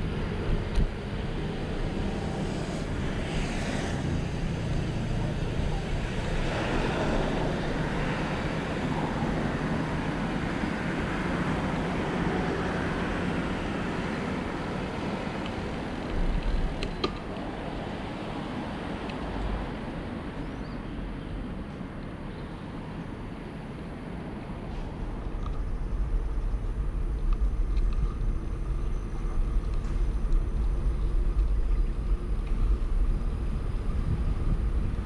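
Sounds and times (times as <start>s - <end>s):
low wind gust: 0.0s - 35.0s
road traffic: 0.0s - 35.0s
wind: 0.0s - 35.0s.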